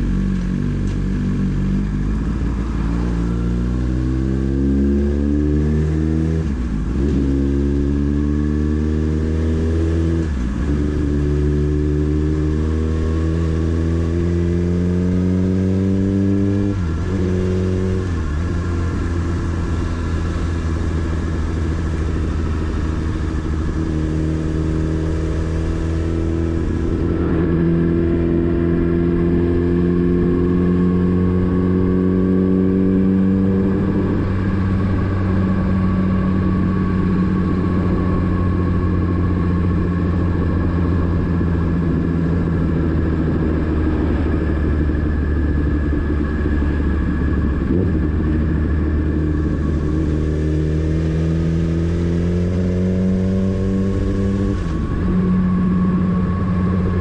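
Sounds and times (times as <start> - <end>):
motorcycle engine shifting gears: 0.0 - 57.0.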